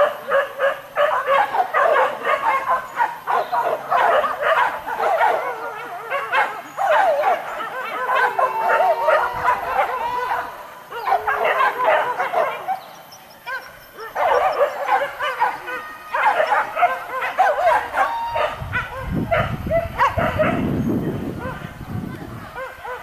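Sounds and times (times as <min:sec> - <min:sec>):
dogs yelping and baying: 0:00.0 - 0:20.7.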